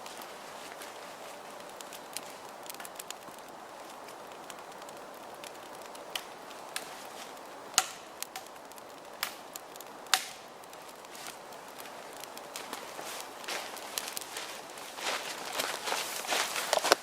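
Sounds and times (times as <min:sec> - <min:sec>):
dry wood cracking and snapping: 0:00.0 - 0:17.0
steady low hiss: 0:00.0 - 0:17.0.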